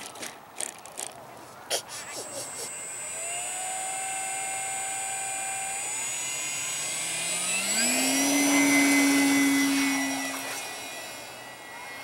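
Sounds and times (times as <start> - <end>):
electric motor and propeller whining: 0.0 - 12.0.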